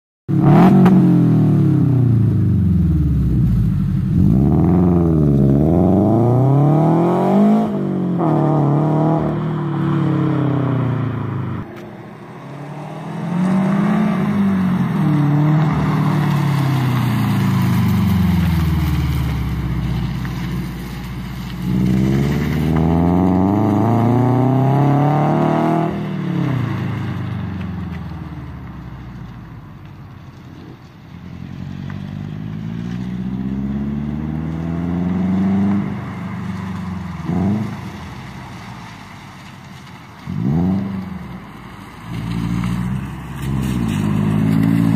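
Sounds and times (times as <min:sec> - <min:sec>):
car engine accelerating: 0:00.3 - 0:44.9.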